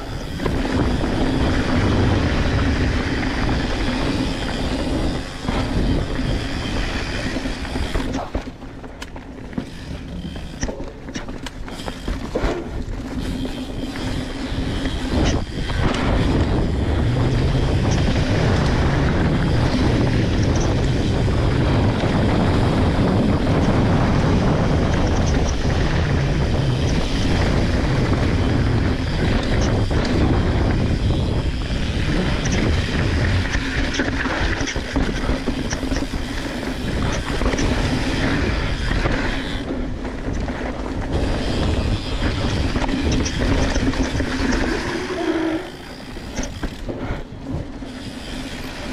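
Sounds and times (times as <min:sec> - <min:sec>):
bike knocks and rattles: 0:00.0 - 0:48.9
tyres rolling on dirt: 0:00.0 - 0:48.9
wind rush on microphone: 0:00.0 - 0:48.9.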